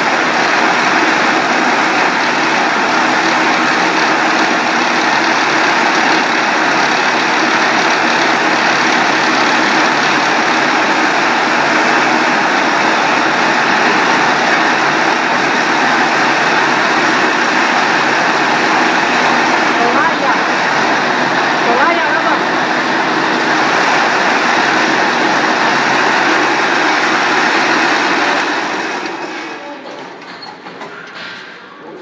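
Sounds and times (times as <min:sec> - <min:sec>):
baler machine running: 0:00.0 - 0:32.0.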